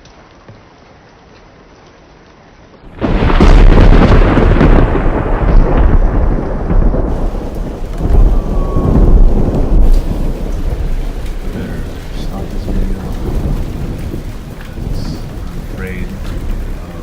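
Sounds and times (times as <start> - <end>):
steady rain: 0.0 - 17.0
thunder clap and rumble: 2.9 - 17.0.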